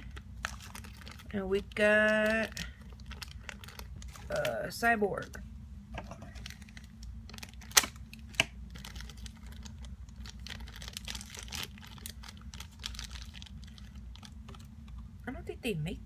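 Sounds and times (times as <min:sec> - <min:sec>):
plastic and foil packaging crinkling: 0:00.0 - 0:05.4, 0:06.0 - 0:15.2.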